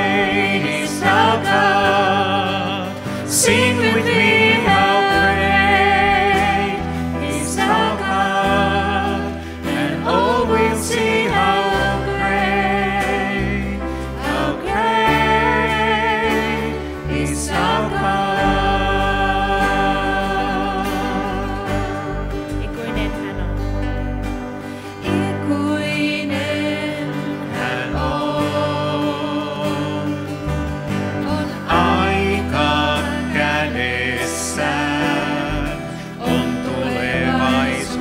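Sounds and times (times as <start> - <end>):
women singing with vibrato: 0.0 - 23.6, 25.0 - 30.4, 31.0 - 38.0
acoustic guitar: 0.0 - 38.0
keyboard: 0.0 - 38.0.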